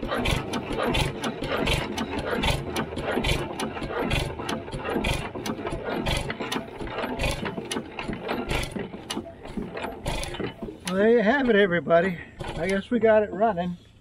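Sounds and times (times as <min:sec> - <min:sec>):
hit-and-miss engine clattering: 0:00.0 - 0:13.3.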